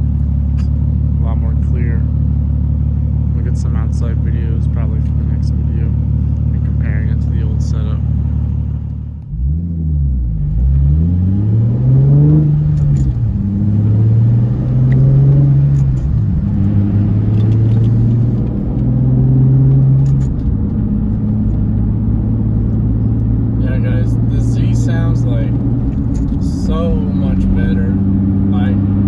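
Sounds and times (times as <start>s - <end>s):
car engine heard inside car: 0.0s - 29.0s.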